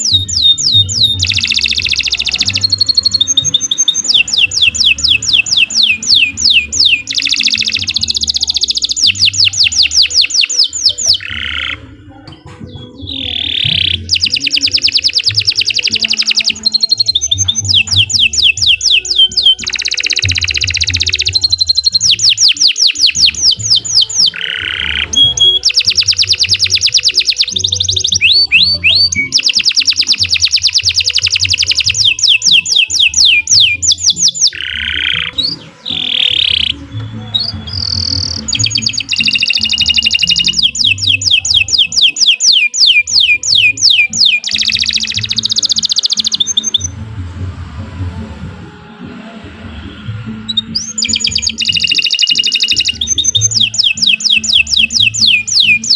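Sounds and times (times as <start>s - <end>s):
canary singing trills: 0.0s - 47.2s, 49.2s - 55.9s.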